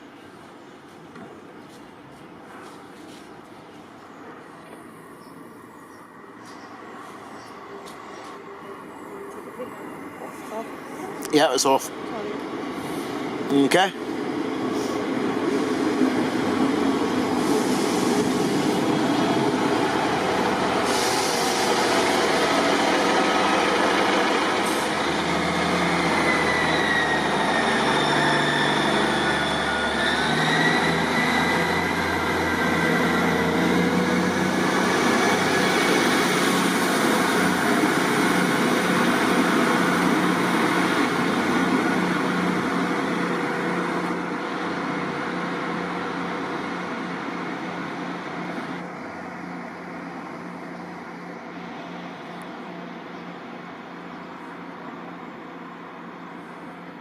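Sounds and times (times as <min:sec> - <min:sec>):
diesel train engine running: 0:07.9 - 0:57.0.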